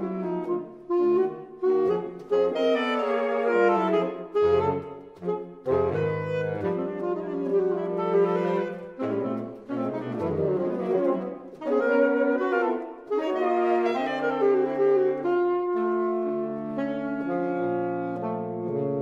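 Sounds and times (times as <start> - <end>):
saxophone trio playing: 0.0 - 19.0.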